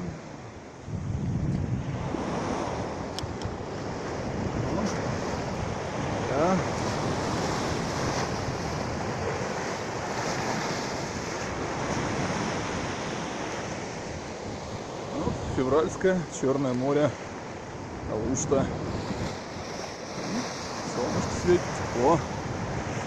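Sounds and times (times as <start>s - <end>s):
surf washing on shore: 0.0s - 23.0s
wind buffeting microphone: 0.0s - 23.0s.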